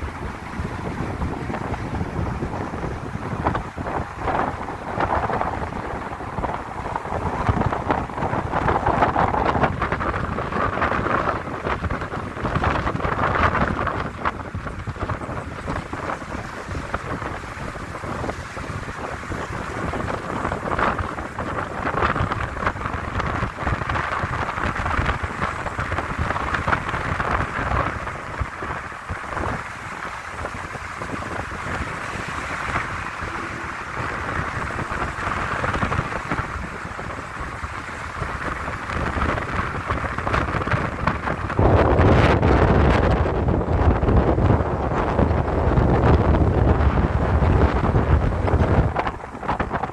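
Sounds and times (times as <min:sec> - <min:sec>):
car road noise rushing: 0:00.0 - 0:49.9
wind buffeting microphone: 0:00.0 - 0:49.9.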